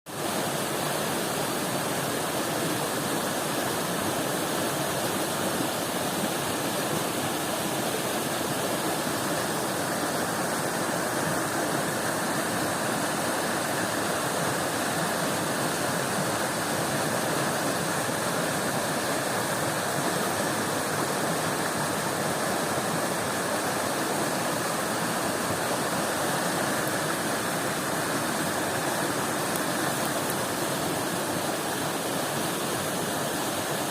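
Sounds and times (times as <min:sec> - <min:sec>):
stream water over rocks: 0:00.1 - 0:33.9.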